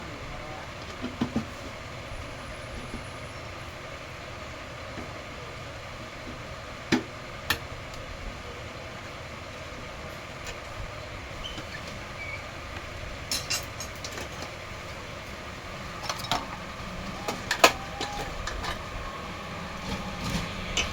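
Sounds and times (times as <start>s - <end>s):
background rumble and hiss: 0.0s - 20.9s.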